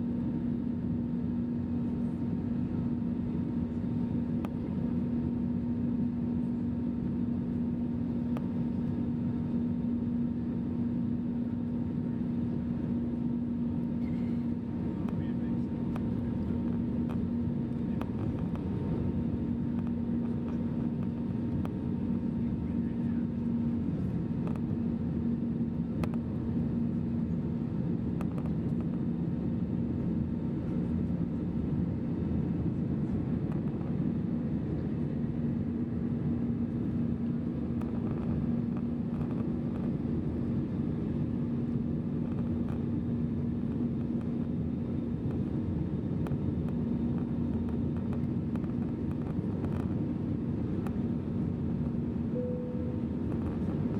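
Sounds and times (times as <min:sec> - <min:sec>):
aircraft engines and airflow: 0:00.0 - 0:53.9
low steady hum: 0:00.0 - 0:53.9.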